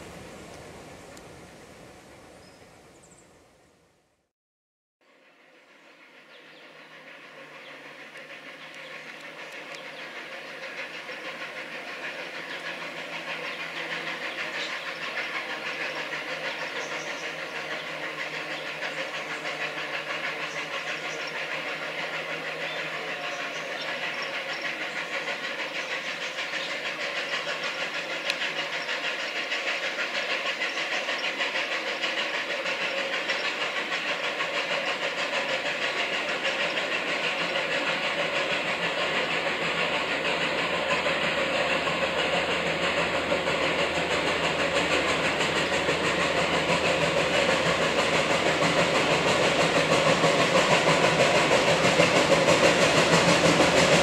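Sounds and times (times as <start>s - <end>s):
steam locomotive exhaust chuffs: 5.1s - 54.0s
steam hissing: 5.6s - 54.0s.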